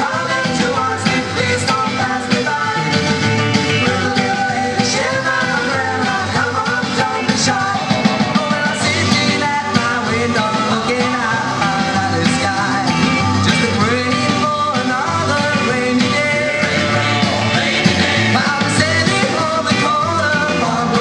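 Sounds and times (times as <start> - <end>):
rock and roll song with singer: 0.0 - 21.0.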